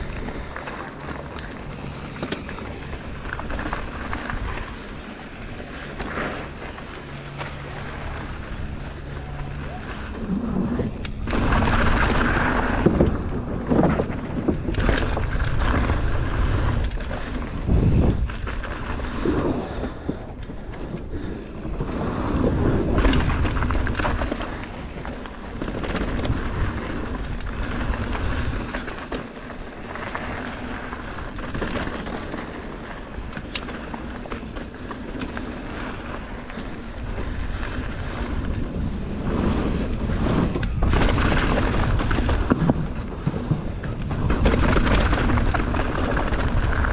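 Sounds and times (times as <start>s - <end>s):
bike rattling: 0.0s - 46.9s
bike tyres rumbling on ground: 0.0s - 46.9s.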